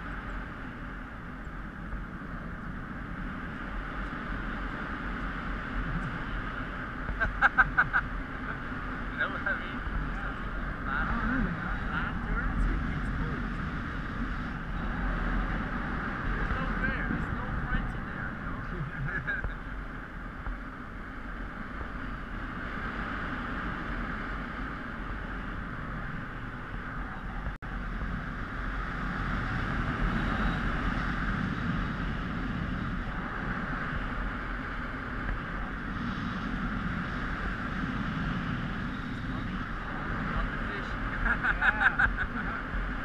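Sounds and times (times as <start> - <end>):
low rumble: 0.0 - 43.0
wind rushing over microphone: 0.0 - 43.0.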